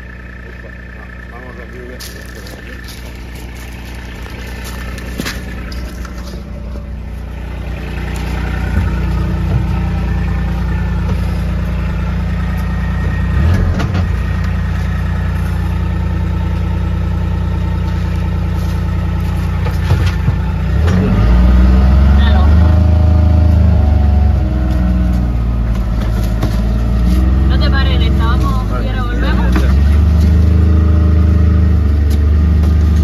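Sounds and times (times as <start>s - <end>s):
engine idling inside cab: 0.0s - 33.0s.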